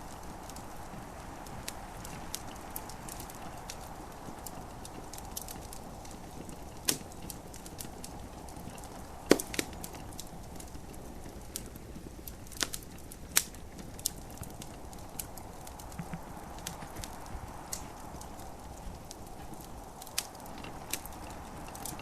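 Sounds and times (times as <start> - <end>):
gentle rain hissing: 0.0 - 22.0
wood fire crackling: 0.0 - 22.0
sharp pops of fire: 0.1 - 22.0.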